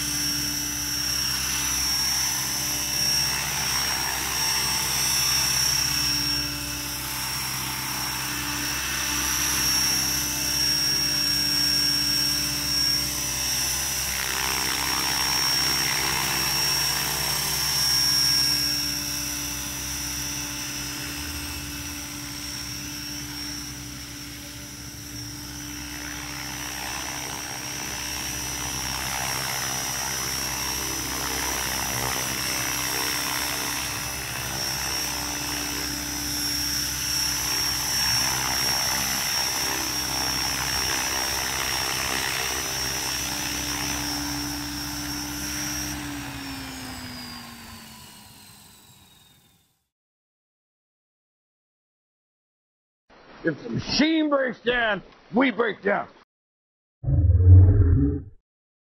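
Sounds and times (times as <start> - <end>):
model helicopter rotor whine: 0.0 - 49.9.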